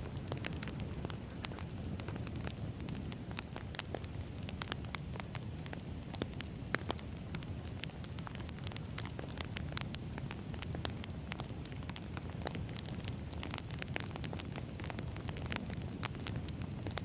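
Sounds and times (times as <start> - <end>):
low rush of fire: 0.0 - 17.0
firewood popping and snapping: 0.1 - 17.0.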